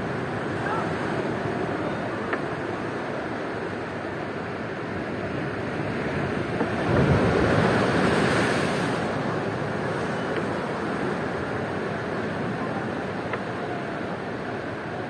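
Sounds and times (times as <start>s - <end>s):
sea surf washing on shore: 0.0s - 15.0s.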